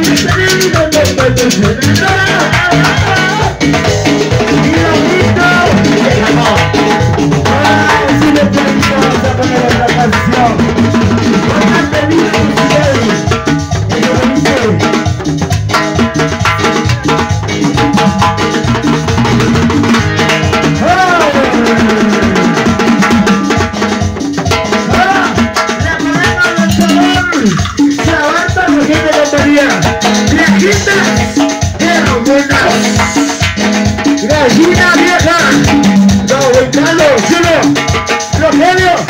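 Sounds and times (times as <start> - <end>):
busy percussion beat: 0.0 - 39.0
latin dance band music: 0.0 - 39.0.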